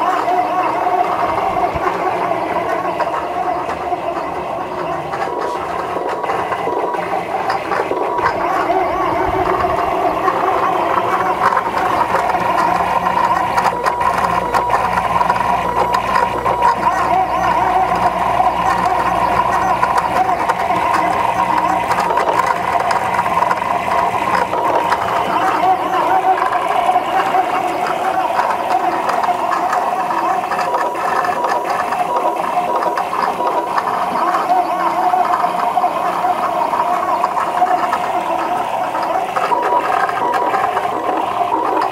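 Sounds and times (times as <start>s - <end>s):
printer ticks: 0.0s - 41.9s
stepper motors whining: 0.0s - 41.9s.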